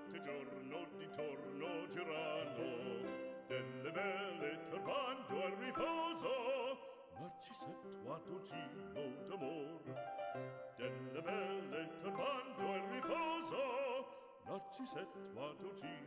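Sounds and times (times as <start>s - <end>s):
opera singer with wide vibrato: 0.0s - 10.0s, 10.8s - 16.0s.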